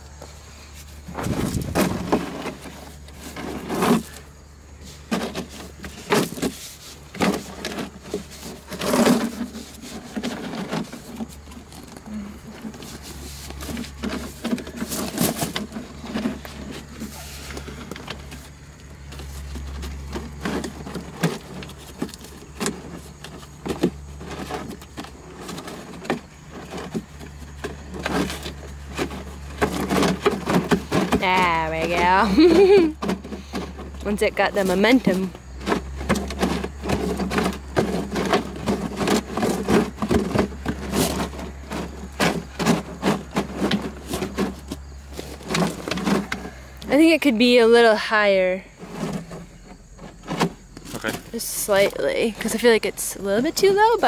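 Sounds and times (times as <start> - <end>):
plastic pipe scraping and knocking: 0.1 - 54.0.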